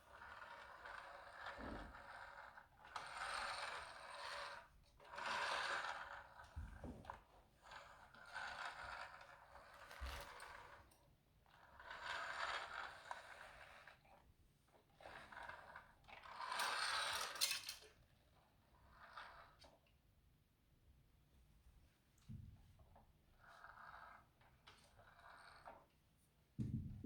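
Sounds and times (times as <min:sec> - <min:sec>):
toy car wheels whirring and scraping: 0:00.0 - 0:19.8, 0:23.4 - 0:25.9.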